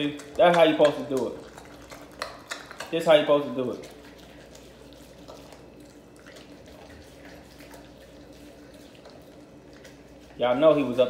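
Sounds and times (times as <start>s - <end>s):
dog chewing wetly: 0.0s - 11.0s.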